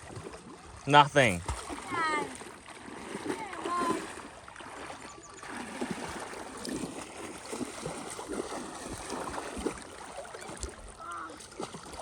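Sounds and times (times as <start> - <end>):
shallow water sloshing: 0.0 - 12.0.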